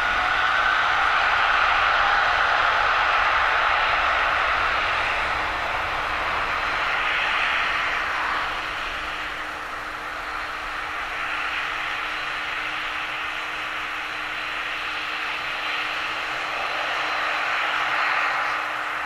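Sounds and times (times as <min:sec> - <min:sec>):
faint steady hum: 0:00.0 - 0:19.0
jet engine roar: 0:00.0 - 0:19.0.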